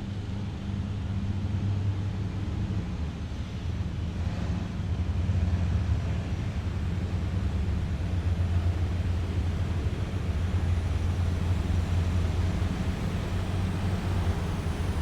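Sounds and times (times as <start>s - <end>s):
heavy vehicle engines droning: 0.0s - 15.0s.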